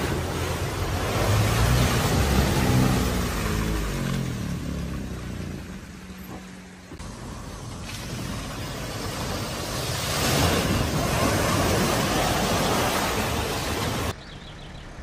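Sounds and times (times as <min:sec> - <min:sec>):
water rushing and splashing: 0:00.0 - 0:14.2.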